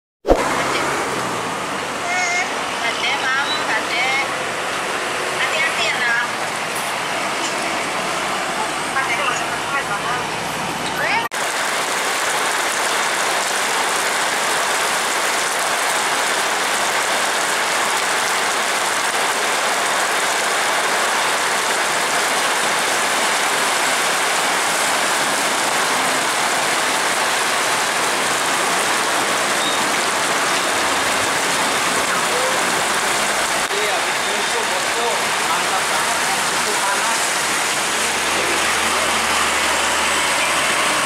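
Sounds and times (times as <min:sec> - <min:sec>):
heavy rain on road: 0:00.4 - 0:41.0.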